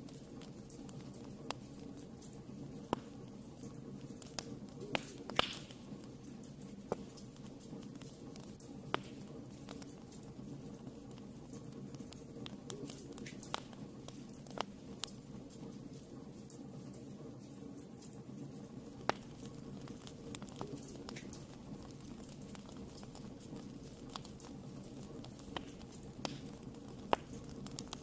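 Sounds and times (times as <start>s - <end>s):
fire flames rushing: 0.0s - 16.1s, 18.3s - 28.0s
fire crackling and popping: 0.0s - 28.0s.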